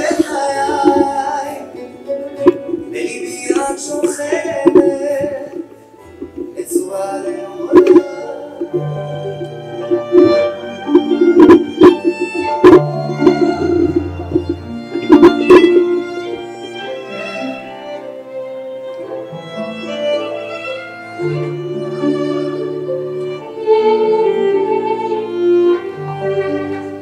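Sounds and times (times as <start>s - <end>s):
plucked string accompaniment: 0.0s - 27.0s
violin melody: 0.0s - 27.0s.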